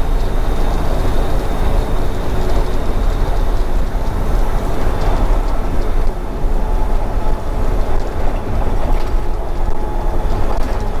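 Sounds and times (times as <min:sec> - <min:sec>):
truck engine and tyre drone: 0:00.0 - 0:11.0.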